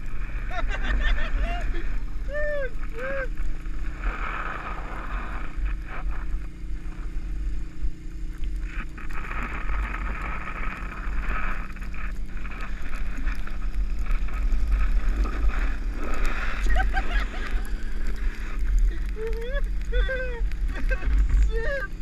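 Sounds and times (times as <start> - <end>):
atv engine humming: 0.0 - 22.0
wind rumble on microphone: 0.0 - 22.0.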